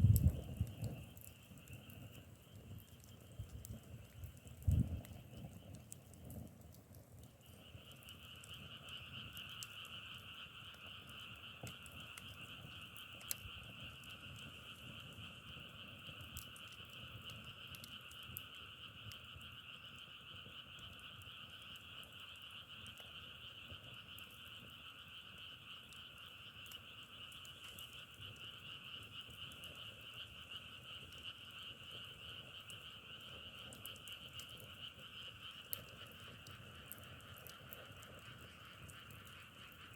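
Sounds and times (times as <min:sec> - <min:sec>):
frogs calling: 0:00.2 - 0:06.6, 0:07.4 - 0:39.9.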